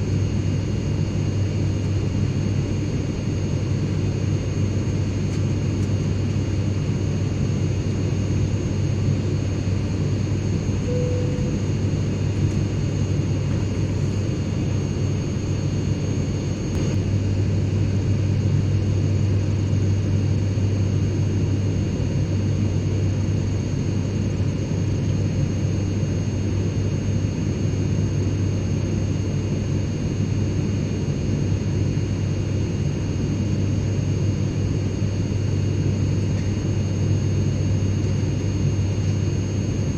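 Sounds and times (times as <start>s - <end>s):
airliner engine and airflow drone: 0.0s - 39.9s
faint steady whine: 0.0s - 39.9s.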